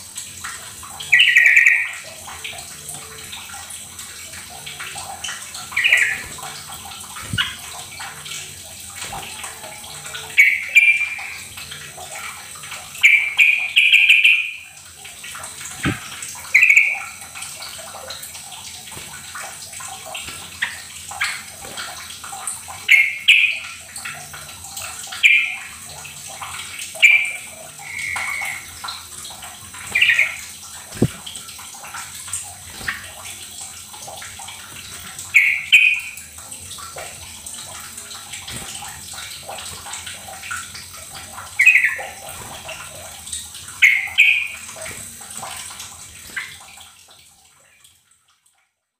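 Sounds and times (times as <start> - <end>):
trickling water-like noise: 0.0 - 48.9.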